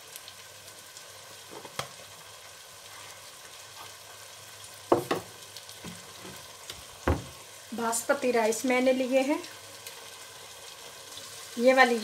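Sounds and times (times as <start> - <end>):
masala sizzling in a pot: 0.0 - 12.0.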